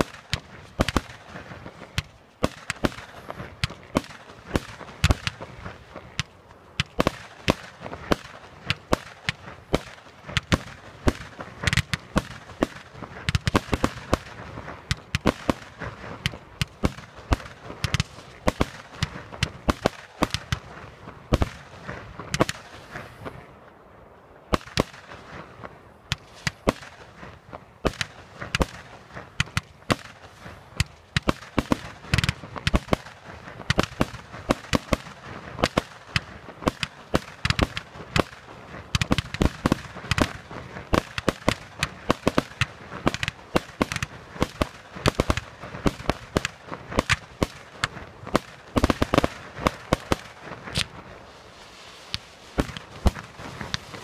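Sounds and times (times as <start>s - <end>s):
fireworks bursting: 0.0s - 23.8s, 24.4s - 54.0s.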